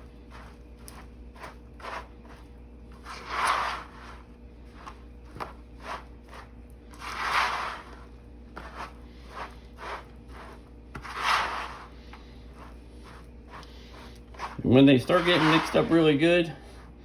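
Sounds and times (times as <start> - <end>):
spatula scraping in bowl: 0.0 - 17.0.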